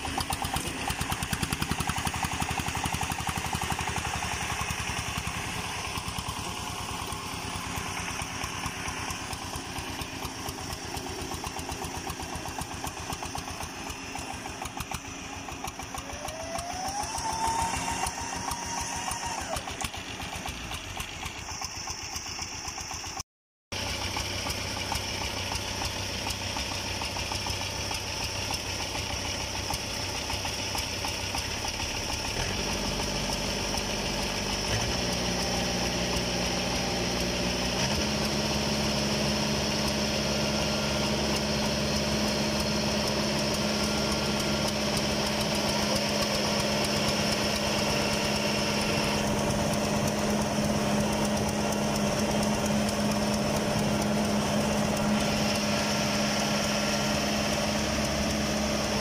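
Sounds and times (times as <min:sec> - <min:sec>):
small diesel engine revving: 0:00.0 - 0:59.0.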